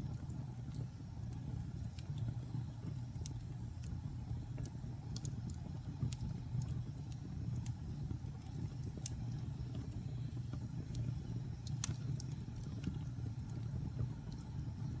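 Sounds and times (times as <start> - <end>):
campfire rumble: 0.0 - 15.0
wood crackling and popping: 0.0 - 15.0.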